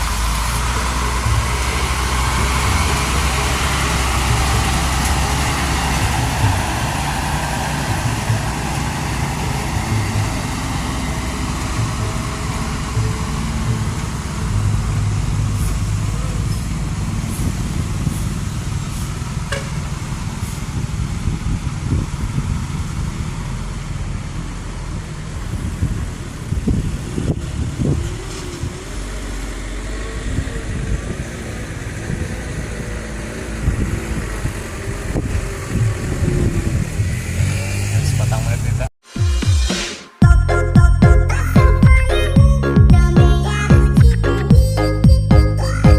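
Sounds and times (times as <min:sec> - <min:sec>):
diesel engine low rumble: 0:00.0 - 0:39.0, 0:40.2 - 0:45.9.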